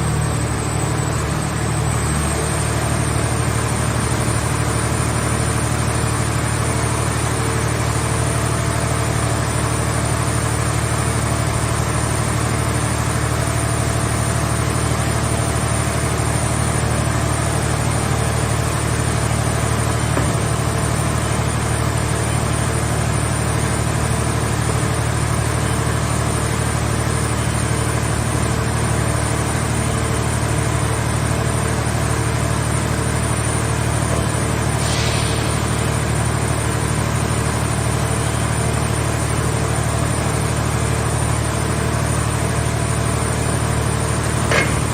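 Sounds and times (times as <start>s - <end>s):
engine low drone: 0.0s - 44.9s.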